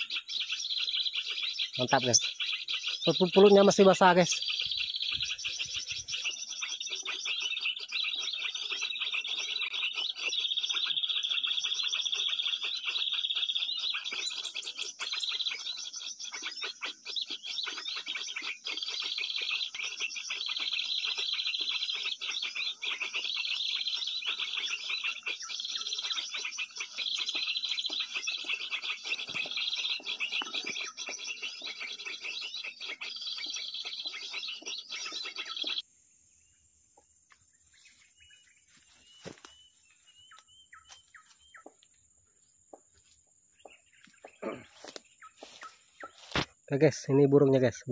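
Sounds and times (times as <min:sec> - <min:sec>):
recorded bird chirping from speaker: 0:00.0 - 0:36.5, 0:43.5 - 0:47.9.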